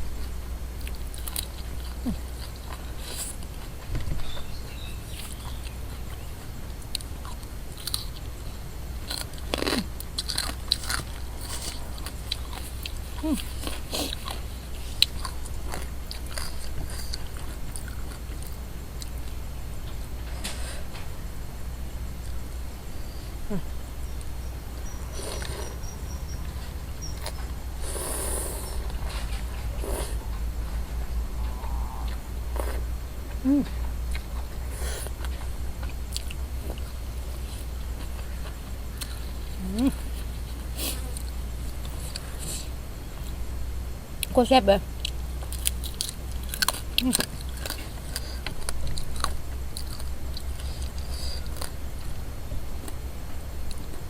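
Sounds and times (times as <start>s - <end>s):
steady low hum: 0.0s - 54.0s
person chewing crunchy food: 0.2s - 21.0s, 24.8s - 43.4s, 45.0s - 54.0s.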